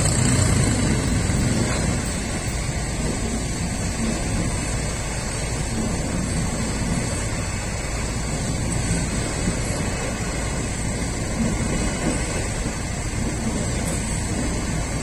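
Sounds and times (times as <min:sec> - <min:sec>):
train wheels running on rails: 0:00.0 - 0:15.0.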